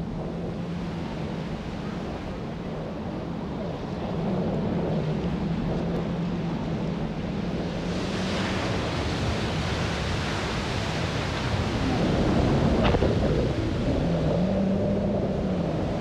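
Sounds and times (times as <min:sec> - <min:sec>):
jet ski engine running: 0:00.0 - 0:16.0
wind: 0:00.0 - 0:16.0.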